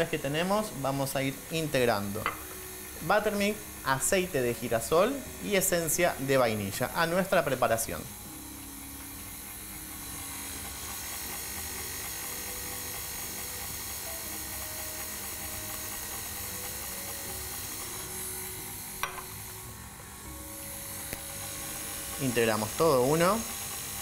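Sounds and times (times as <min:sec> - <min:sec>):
stand mixer running: 0:00.0 - 0:24.0.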